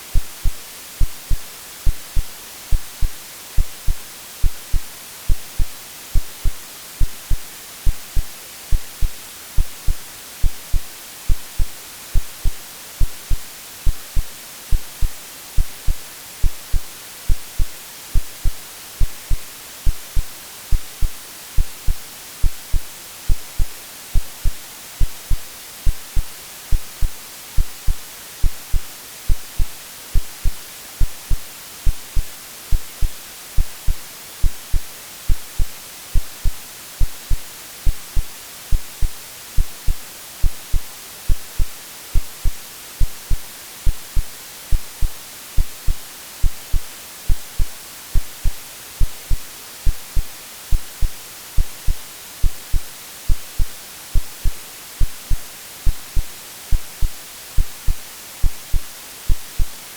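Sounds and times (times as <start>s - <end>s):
white noise hiss: 0.0s - 59.9s
heartbeat thumps: 0.1s - 59.8s.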